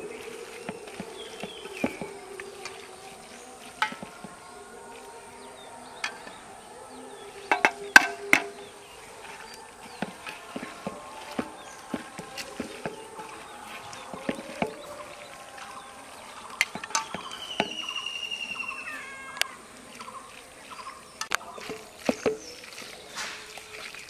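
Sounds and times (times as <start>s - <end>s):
insects buzzing: 0.0s - 24.0s.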